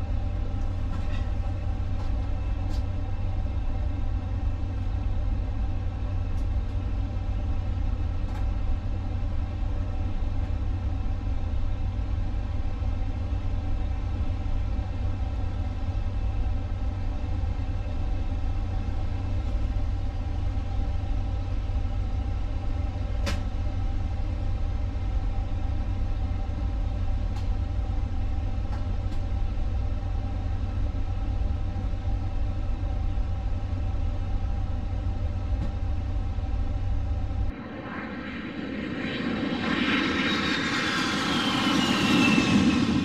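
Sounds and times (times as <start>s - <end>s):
cockpit low rumble and hum: 0.0s - 43.0s.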